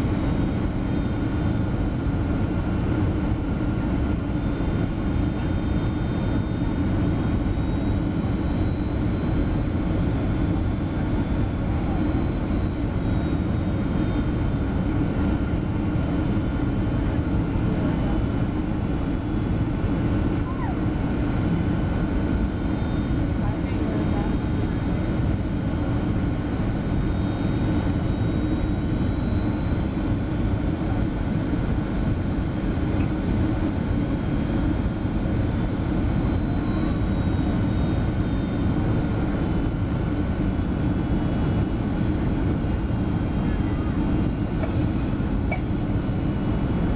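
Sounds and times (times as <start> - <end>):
faint steady whines: 0.0 - 46.9
jet engines rumbling: 0.0 - 46.9.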